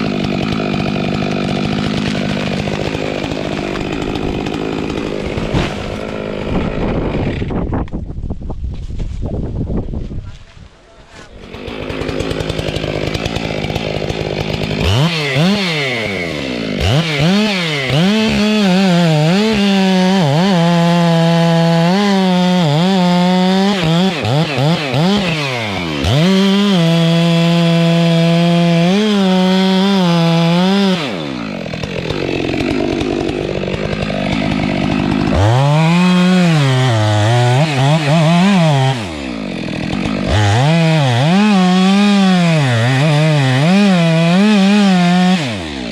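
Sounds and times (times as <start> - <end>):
chainsaw revving and cutting wood: 0.0 - 8.0, 11.2 - 45.9.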